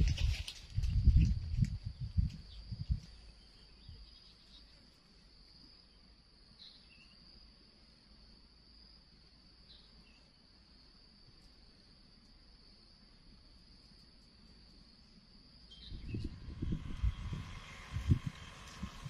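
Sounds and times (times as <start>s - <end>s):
insects droning: 0.0s - 19.0s
faint chirps: 2.5s - 19.0s.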